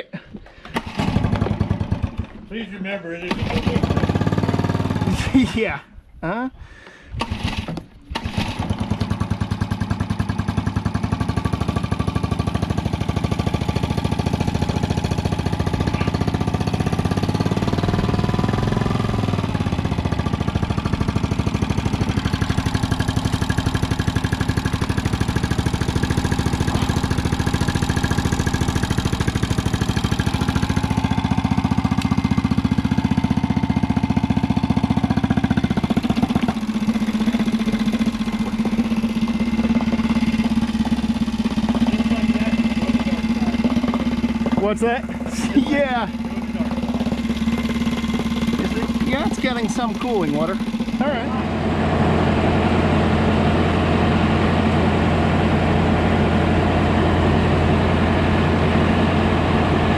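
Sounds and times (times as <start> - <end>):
outboard motor running: 0.5 - 5.6, 7.0 - 59.9.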